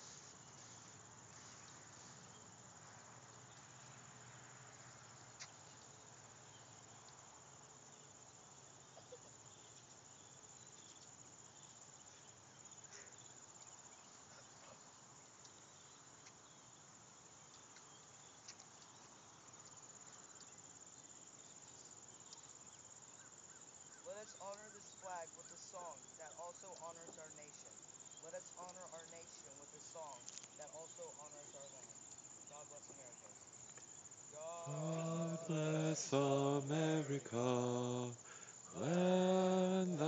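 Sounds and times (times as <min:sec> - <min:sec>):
faint cricket chirring: 0:00.0 - 0:40.0.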